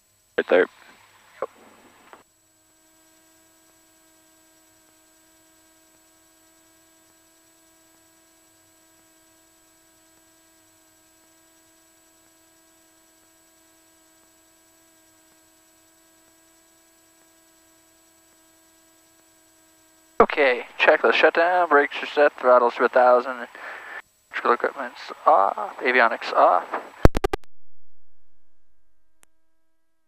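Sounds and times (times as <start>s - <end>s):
faint cockpit hum: 0.0s - 27.4s.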